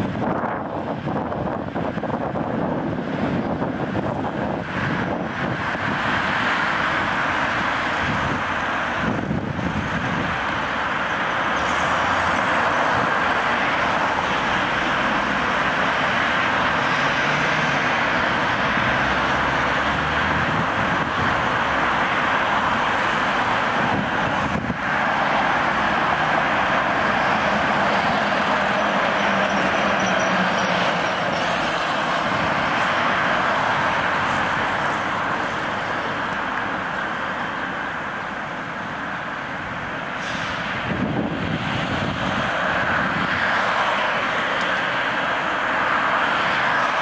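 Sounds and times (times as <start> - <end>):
city road traffic: 0.0 - 47.0.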